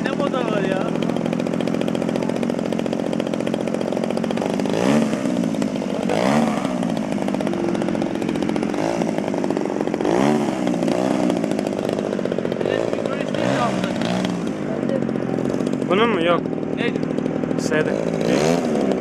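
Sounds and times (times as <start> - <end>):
model plane engine buzzing: 0.0 - 19.0.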